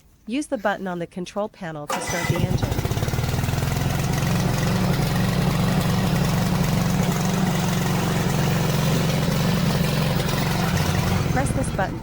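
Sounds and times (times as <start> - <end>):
mower engine idling: 1.9 - 12.0.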